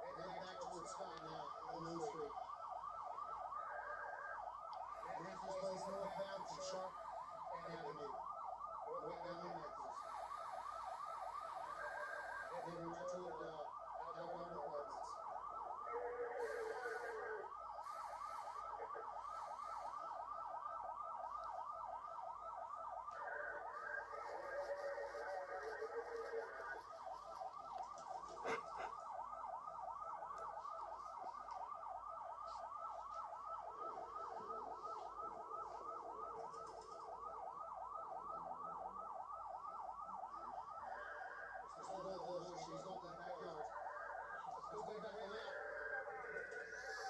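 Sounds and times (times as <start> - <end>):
police siren yelping: 0.0 - 47.0.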